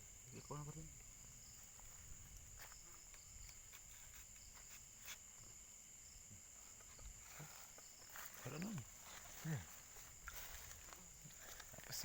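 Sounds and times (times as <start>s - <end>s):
faint high-pitched insect drone: 0.0s - 12.0s.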